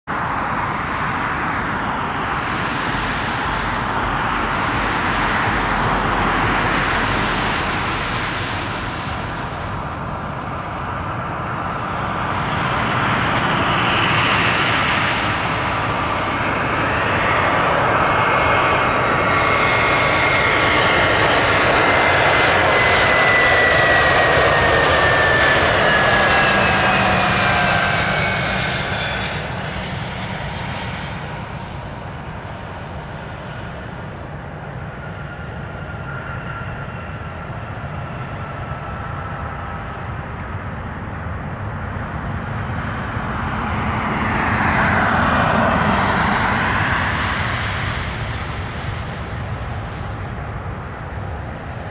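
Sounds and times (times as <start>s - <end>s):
jet engines rushing: 0.1s - 51.9s.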